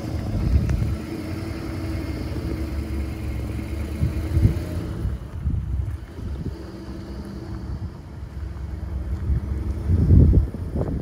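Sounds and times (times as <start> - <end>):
truck engine idling: 0.0 - 11.0
wind rumbling on microphone: 0.0 - 11.0.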